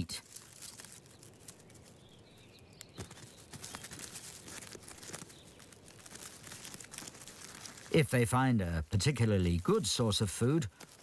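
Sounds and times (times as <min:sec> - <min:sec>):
dry leaves crackling: 0:00.0 - 0:11.0.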